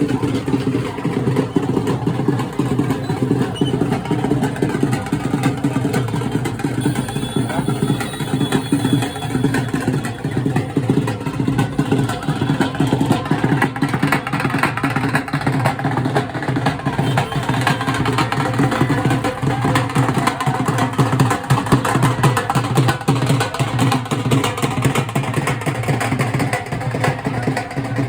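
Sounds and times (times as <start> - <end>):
loud fast drumming: 0.0 - 28.0.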